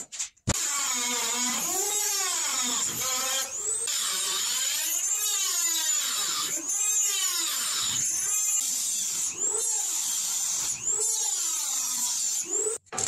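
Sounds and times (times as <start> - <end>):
rotary tool cutting metal: 0.5 - 13.0.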